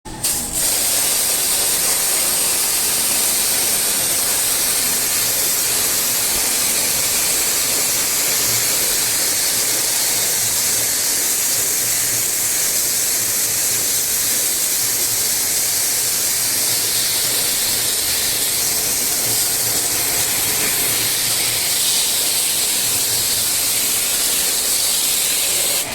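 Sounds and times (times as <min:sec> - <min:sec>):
high-pressure water spray hissing: 0:00.2 - 0:25.9.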